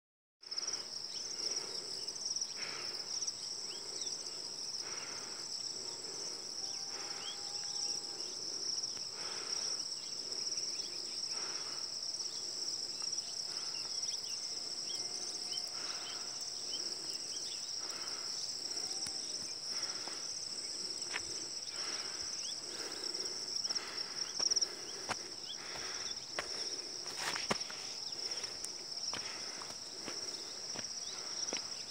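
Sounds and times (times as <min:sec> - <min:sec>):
insects trilling: 0:00.4 - 0:31.9.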